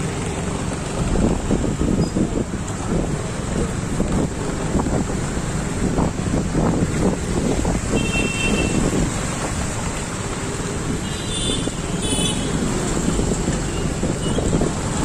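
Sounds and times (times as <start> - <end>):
street traffic noise: 0.0 - 15.0
wind rumbling on microphone: 0.0 - 15.0.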